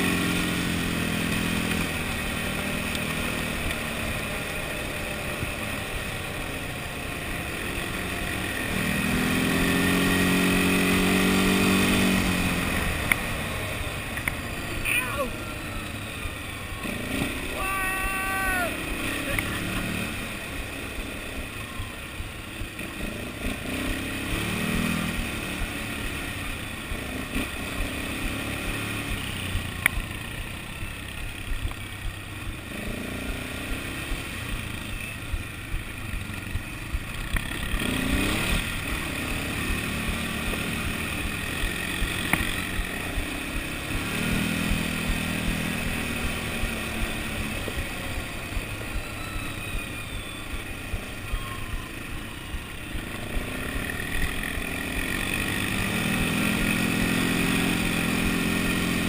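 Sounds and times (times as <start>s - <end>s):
quad bike engine running: 0.0s - 59.0s.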